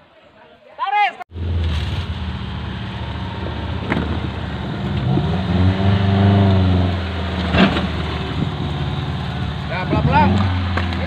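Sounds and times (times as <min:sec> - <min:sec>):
off-road engine revving under load: 0:01.3 - 0:11.0.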